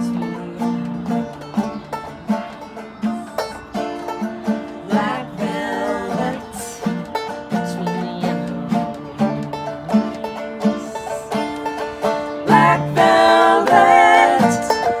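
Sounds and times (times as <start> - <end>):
acoustic guitar: 0.0 - 15.0
banjo picking: 0.0 - 15.0
fiddle: 0.0 - 15.0.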